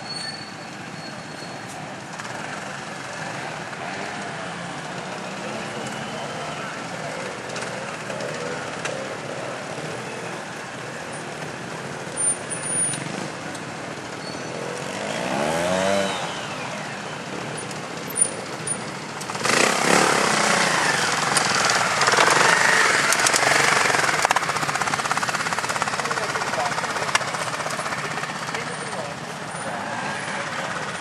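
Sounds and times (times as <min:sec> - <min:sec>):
motorcycle engine revving: 0:01.9 - 0:31.0.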